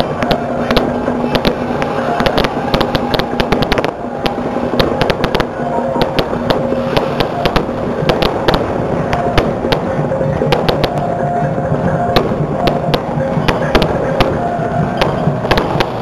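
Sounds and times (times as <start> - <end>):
firecrackers popping: 0.0 - 11.2, 12.1 - 16.0
crowd noise: 0.0 - 16.0
steady held tones: 0.0 - 16.0.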